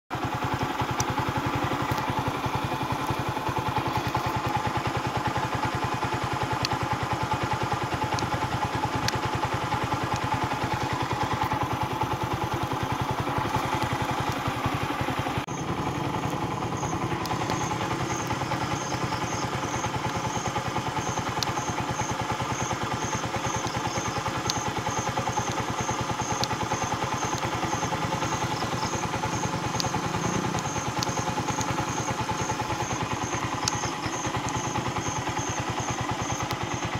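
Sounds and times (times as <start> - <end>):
motorcycle engine running: 0.1 - 36.9.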